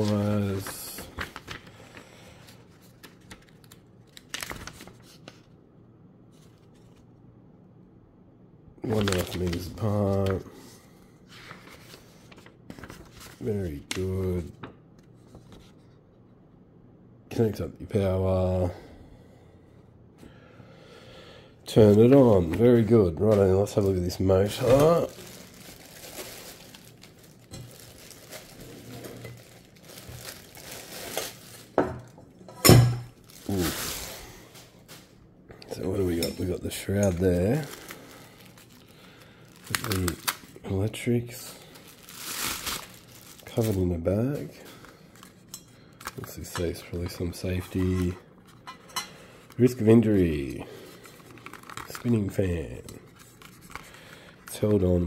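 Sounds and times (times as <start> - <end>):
paper rustling and crinkling: 0.0 - 5.6, 6.3 - 7.1, 8.8 - 10.6, 11.3 - 16.0, 21.7 - 31.8, 33.1 - 48.6, 49.4 - 55.0.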